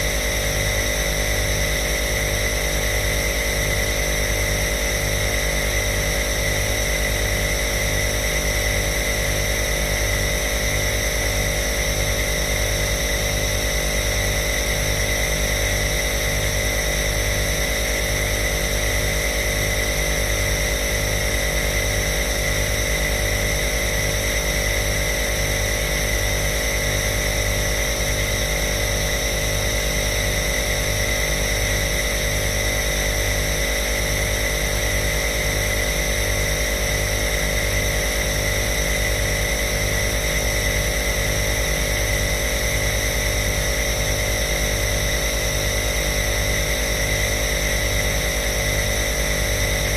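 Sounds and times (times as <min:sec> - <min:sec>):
nebuliser motor hum pulsing: 0:00.0 - 0:49.9.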